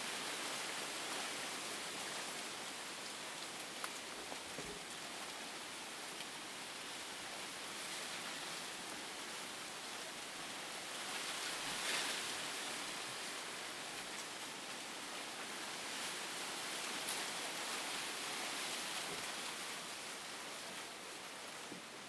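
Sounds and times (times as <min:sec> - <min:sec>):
wind rustling leaves: 0:00.0 - 0:22.0.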